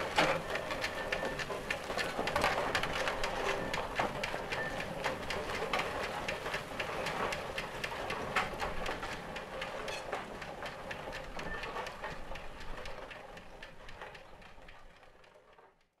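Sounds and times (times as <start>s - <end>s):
clatter of engine gearing: 0.0s - 16.0s.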